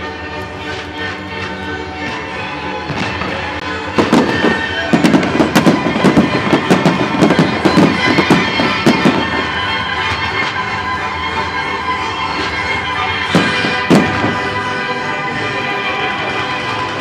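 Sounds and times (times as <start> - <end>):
music with held notes: 0.0 - 17.0
firework bangs: 1.4 - 11.0, 12.3 - 17.0.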